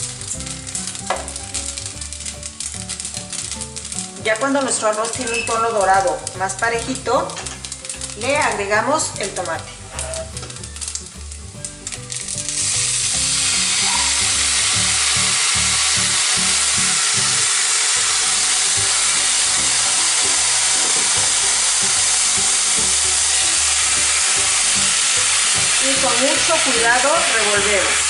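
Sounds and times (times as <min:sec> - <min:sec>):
liquid sizzling in hot oil: 0:00.0 - 0:28.0
rice crackling in oil: 0:00.0 - 0:28.0.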